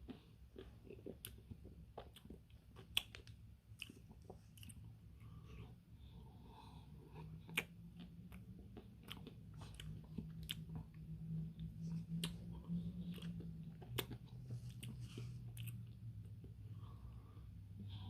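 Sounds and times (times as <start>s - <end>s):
man chewing with sharp clicks: 0.0s - 5.8s, 7.0s - 16.8s
low steady hum: 0.0s - 18.0s.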